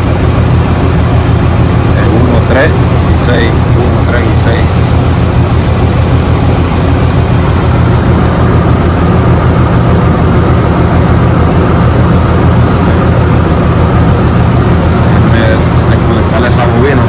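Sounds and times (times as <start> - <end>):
misfiring engine idling: 0.0 - 17.0.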